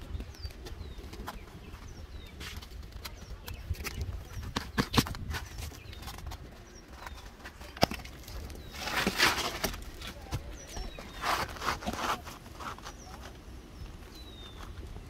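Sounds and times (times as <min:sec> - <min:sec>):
scraping on a shingle roof: 0:00.0 - 0:15.0.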